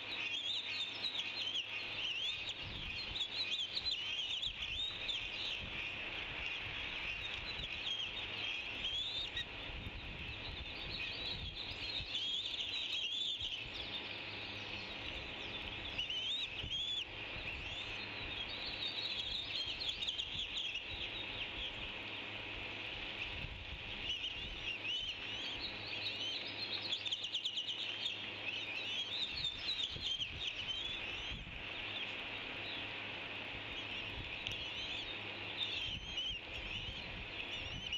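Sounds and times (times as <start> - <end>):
birds chirping: 0.0 - 37.9
steady high hiss: 0.0 - 37.9.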